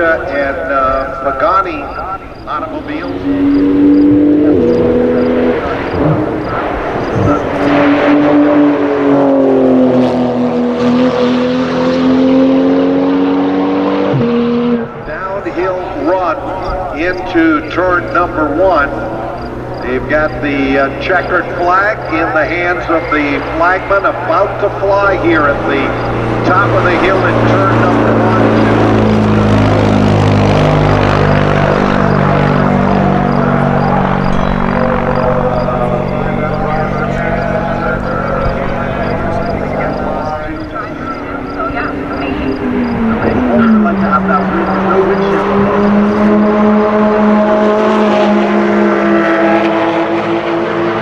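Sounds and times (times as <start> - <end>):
sports car engine at high revs: 0.0 - 51.0.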